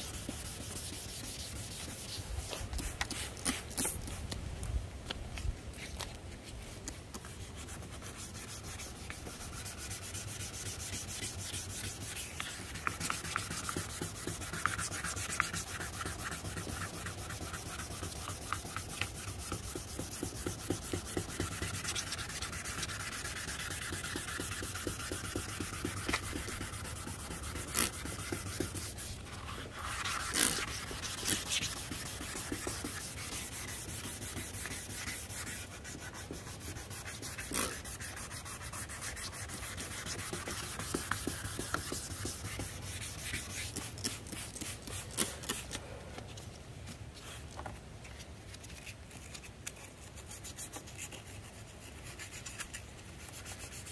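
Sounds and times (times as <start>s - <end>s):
sandpaper sanding plastic: 0.0s - 4.3s, 6.9s - 45.7s, 49.3s - 53.9s.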